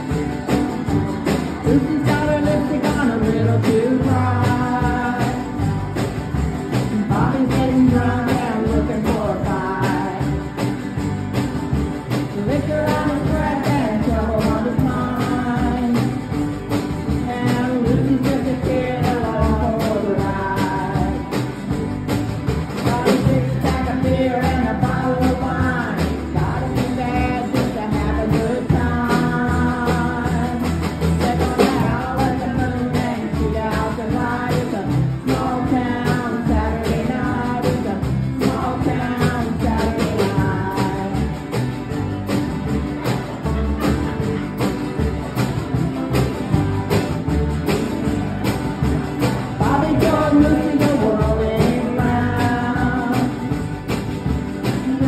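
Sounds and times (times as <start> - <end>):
banjo: 0.0 - 55.0
bass: 0.0 - 55.0
drum kit beat: 0.0 - 55.0
strummed ukuleles: 0.0 - 55.0
woman singing lead: 0.0 - 55.0.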